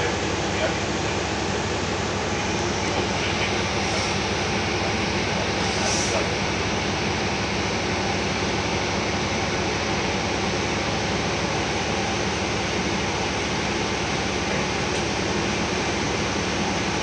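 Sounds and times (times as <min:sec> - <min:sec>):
bus interior drive and road noise: 0:00.0 - 0:17.0.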